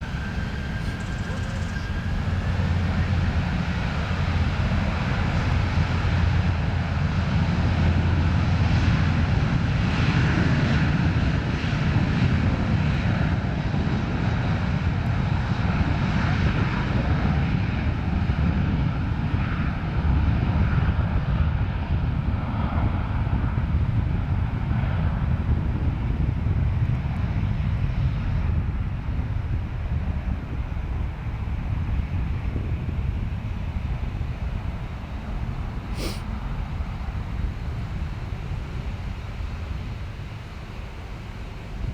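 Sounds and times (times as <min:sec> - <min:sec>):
jet engines rumbling: 0:00.0 - 0:20.0, 0:21.0 - 0:41.9.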